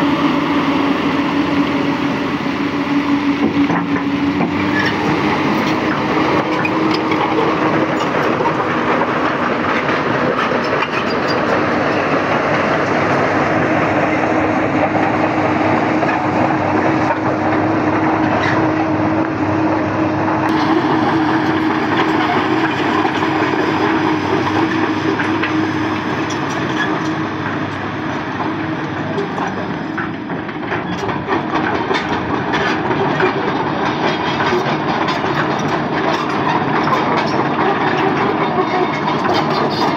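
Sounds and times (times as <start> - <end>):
excavator diesel engine humming: 0.0 - 39.9.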